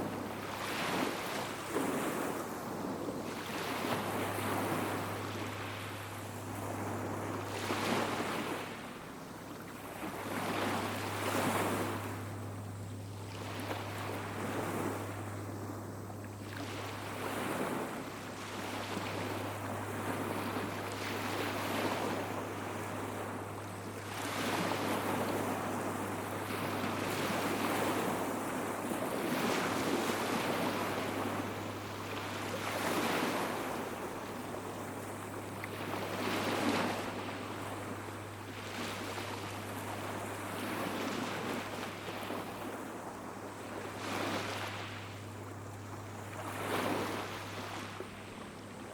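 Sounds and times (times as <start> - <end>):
small waves breaking on beach: 0.0 - 48.9
steady low hum: 0.0 - 48.9.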